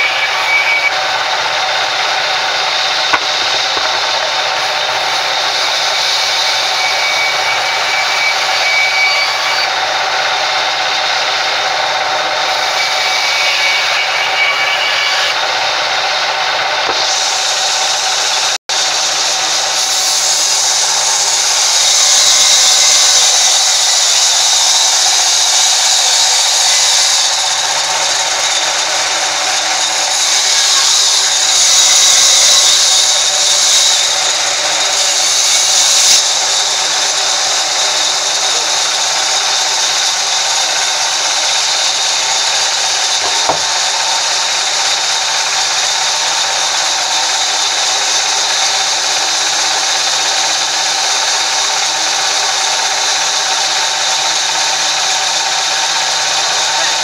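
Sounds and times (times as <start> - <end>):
band saw cutting a log: 0.0 - 57.0.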